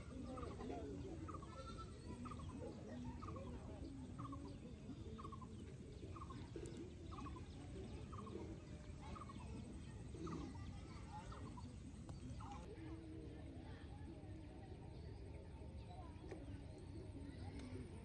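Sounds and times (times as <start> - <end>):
faint background noise: 0.0 - 18.0.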